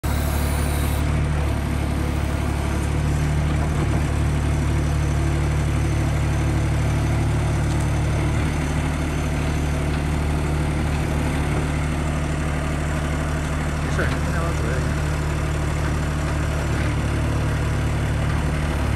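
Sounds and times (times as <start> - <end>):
loader engine idling: 0.0 - 18.9.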